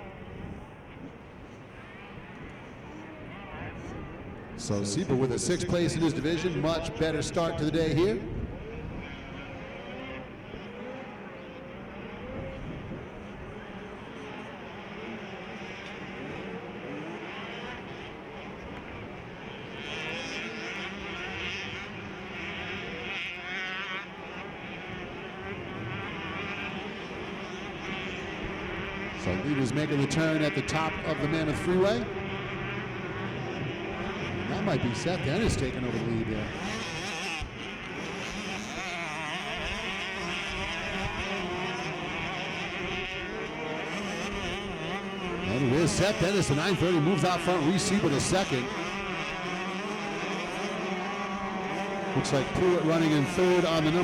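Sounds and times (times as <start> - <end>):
motocross bikes racing: 0.0 - 54.0.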